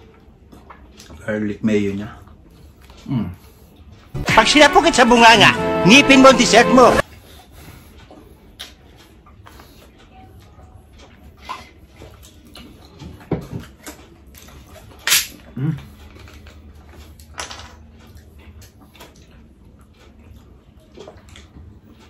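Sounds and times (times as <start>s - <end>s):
eating and drinking noises: 0.0s - 4.2s, 7.0s - 22.0s.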